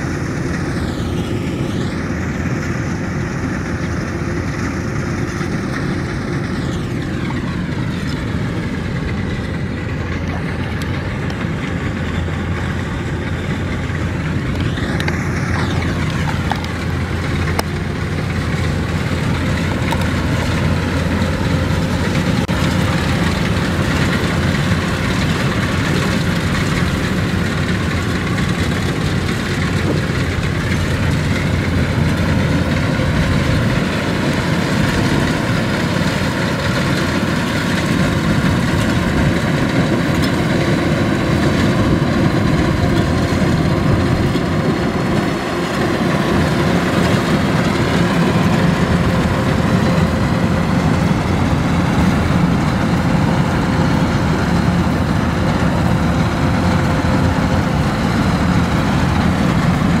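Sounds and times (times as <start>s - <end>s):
combine harvester engine running: 0.0s - 60.0s.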